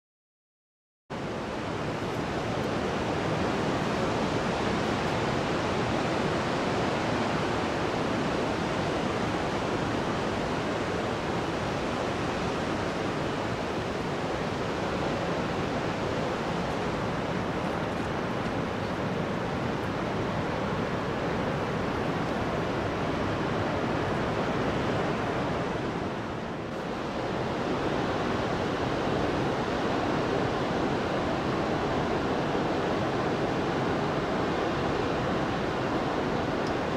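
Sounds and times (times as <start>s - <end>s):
surf breaking on a beach: 1.2s - 36.9s.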